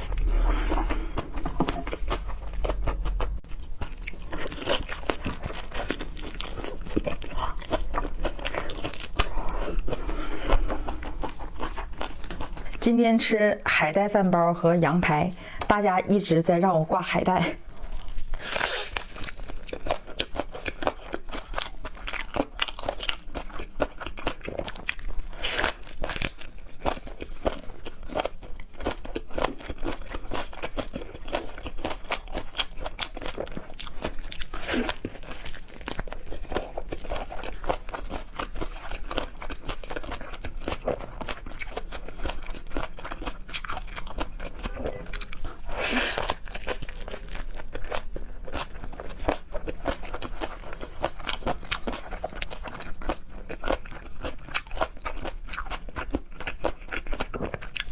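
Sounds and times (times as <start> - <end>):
person chewing crunchy food: 0.0 - 12.9, 17.6 - 57.9.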